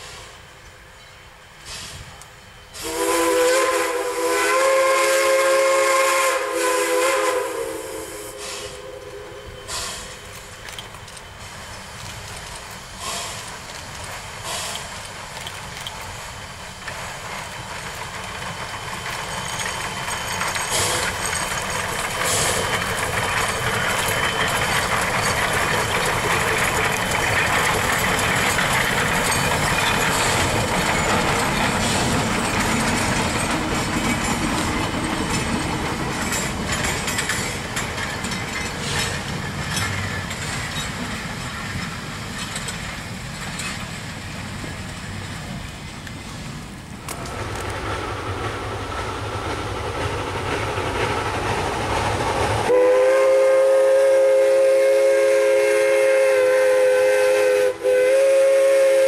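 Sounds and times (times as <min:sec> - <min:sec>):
steam locomotive working: 0:00.0 - 0:59.0
train cars rolling on rails: 0:00.0 - 0:59.0.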